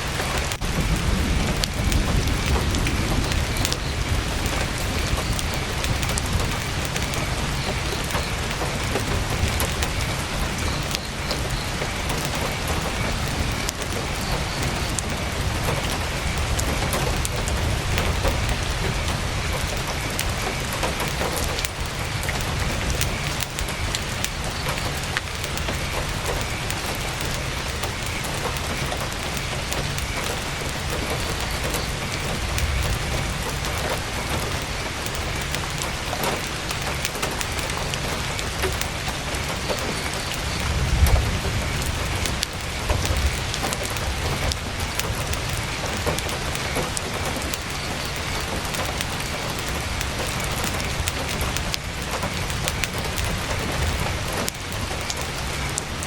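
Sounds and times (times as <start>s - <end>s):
heavy rain on tent fabric: 0.0s - 56.0s
steady low rumble: 0.0s - 56.0s.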